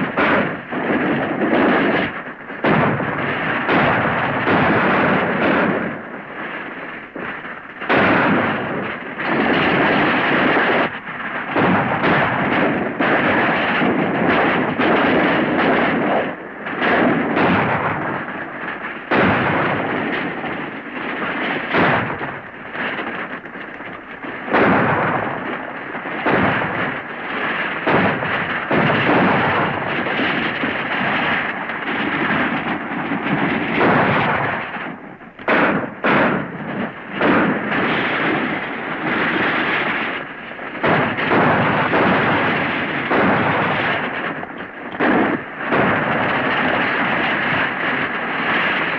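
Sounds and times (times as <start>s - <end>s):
heavy gunfire echoing: 0.0s - 48.9s.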